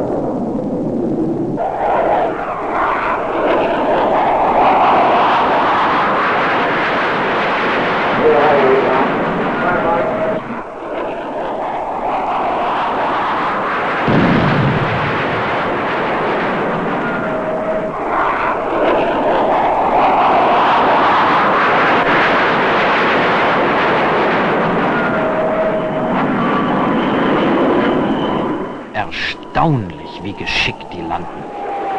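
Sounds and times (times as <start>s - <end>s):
jet flying past overhead: 0.0s - 31.9s.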